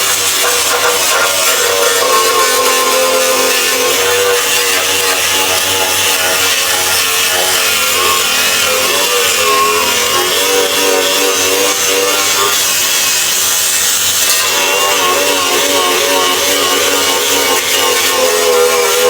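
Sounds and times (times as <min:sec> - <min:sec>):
power tool grinding metal: 0:00.0 - 0:19.0.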